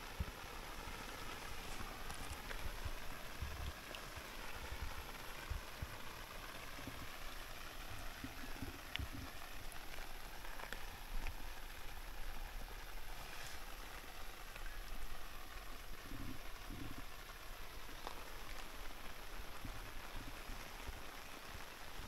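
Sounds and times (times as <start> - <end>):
rain on standing water: 0.0 - 22.0.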